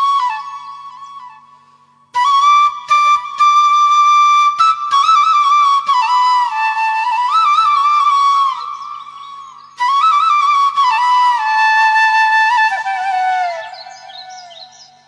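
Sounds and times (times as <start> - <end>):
solo flute slow melody: 0.0 - 15.0.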